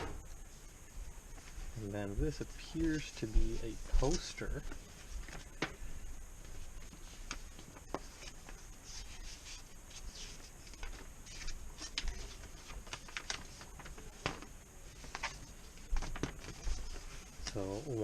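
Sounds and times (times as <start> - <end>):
paper crackling and rustling: 1.4 - 5.8, 6.4 - 18.0.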